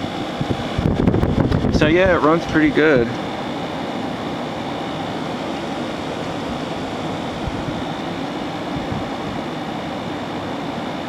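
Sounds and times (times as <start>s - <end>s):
air conditioner fan blowing: 0.0s - 11.0s.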